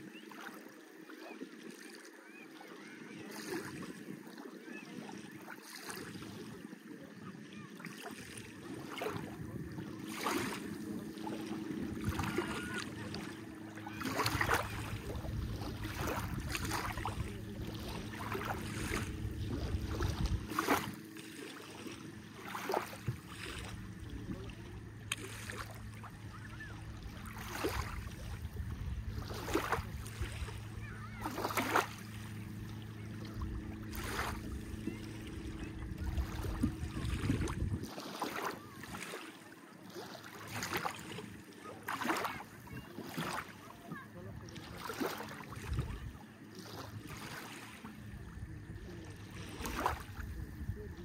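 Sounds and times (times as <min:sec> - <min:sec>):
small waves lapping on shore: 0:00.0 - 0:51.0
low engine hum: 0:08.4 - 0:39.0, 0:40.2 - 0:51.0.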